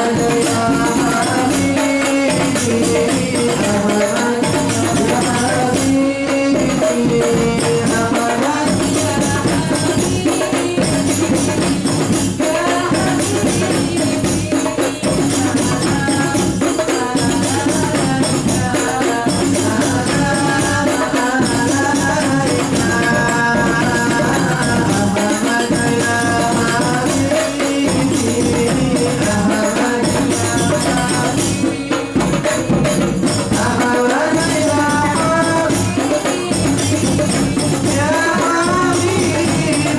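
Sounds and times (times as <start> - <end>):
person singing: 0.0 - 11.7, 12.4 - 32.5, 33.5 - 39.9
frame drum ensemble: 0.0 - 39.9.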